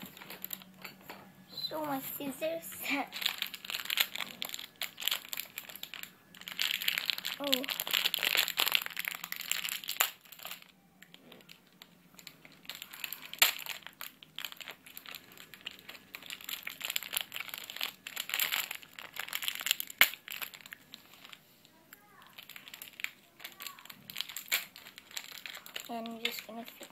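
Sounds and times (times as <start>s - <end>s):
plastic bag crinkling: 0.0s - 26.9s.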